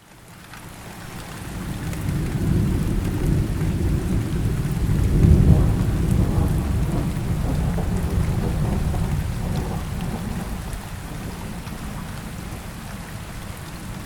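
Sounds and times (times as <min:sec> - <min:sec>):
steady rain: 0:00.0 - 0:14.0
low rumble of thunder: 0:01.3 - 0:14.0.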